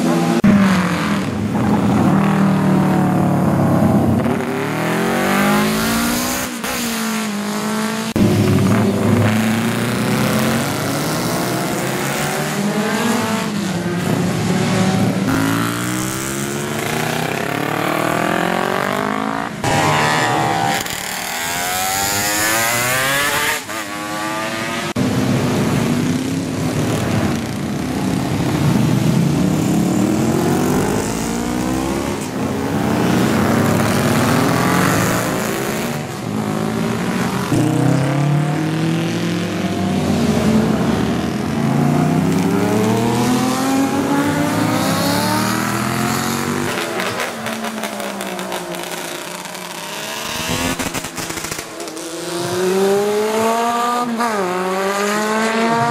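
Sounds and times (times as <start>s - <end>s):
racing motorcycles passing: 0.0s - 55.9s.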